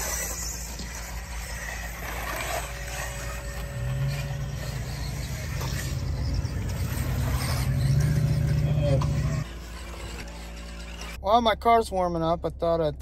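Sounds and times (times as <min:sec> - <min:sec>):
rc buggies running: 0:00.0 - 0:11.2
steady low hum: 0:00.0 - 0:13.0.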